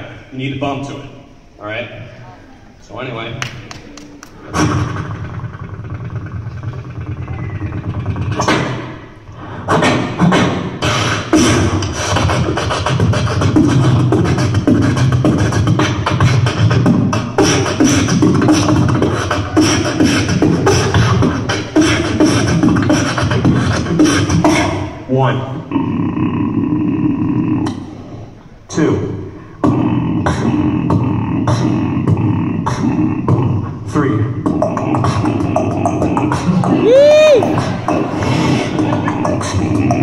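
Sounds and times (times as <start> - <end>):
beatboxing through microphone: 3.2 - 40.0.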